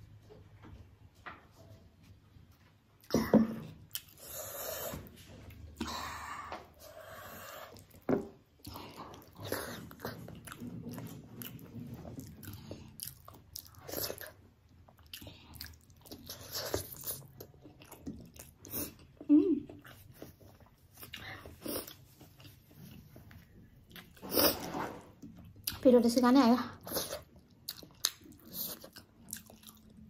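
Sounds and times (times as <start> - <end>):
person chewing with smacks: 2.5 - 24.5, 26.8 - 30.0.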